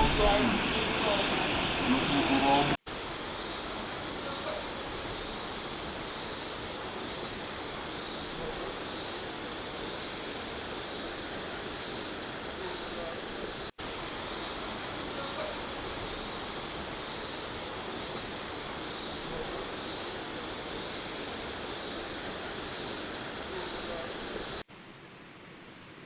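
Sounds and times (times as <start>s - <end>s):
crickets chirping: 0.0s - 26.0s
steady water-like noise: 0.0s - 26.0s.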